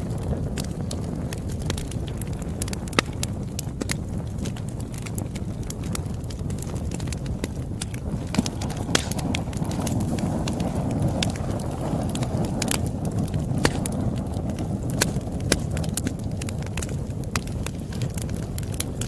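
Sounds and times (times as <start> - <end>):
burning wood crackling and popping: 0.0 - 19.0
rumble of flames: 0.0 - 19.0.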